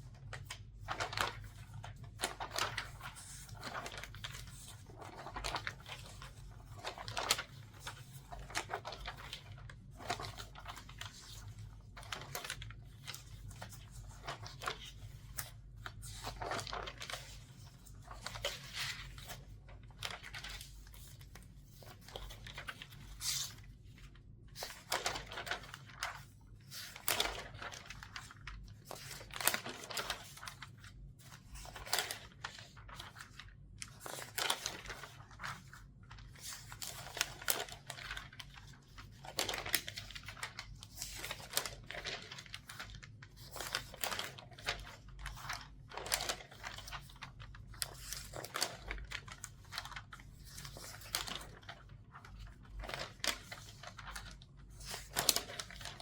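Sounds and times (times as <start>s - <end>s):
newspaper pages rustling: 0.0s - 56.0s.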